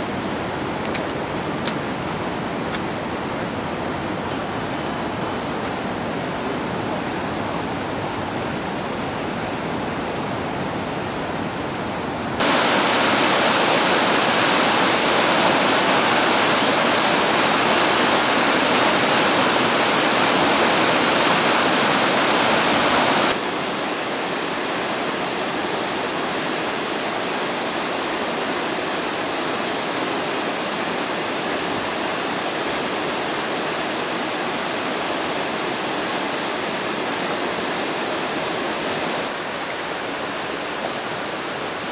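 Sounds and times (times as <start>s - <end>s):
rushing river water: 0.0s - 41.9s.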